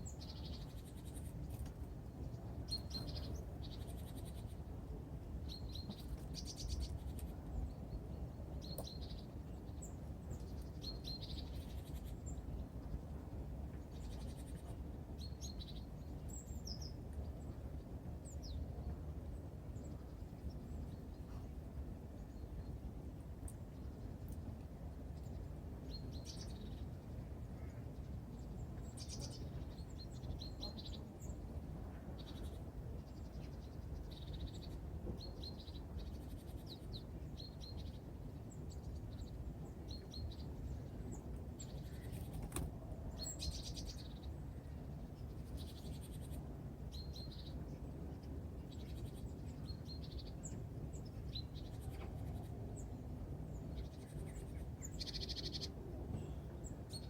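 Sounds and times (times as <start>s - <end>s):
small birds chirping: 0.0s - 13.2s, 13.8s - 19.0s, 25.1s - 57.0s.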